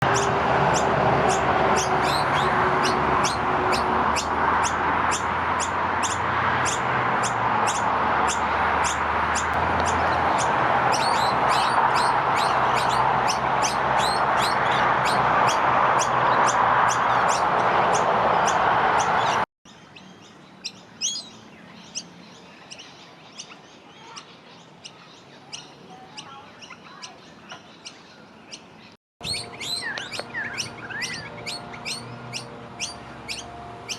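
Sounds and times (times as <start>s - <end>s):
fledglings chirping: 0.1s - 33.9s.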